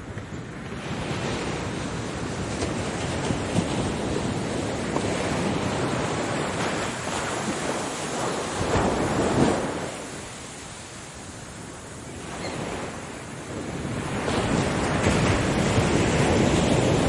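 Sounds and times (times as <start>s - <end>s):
ocean waves washing on shore: 0.0s - 17.0s.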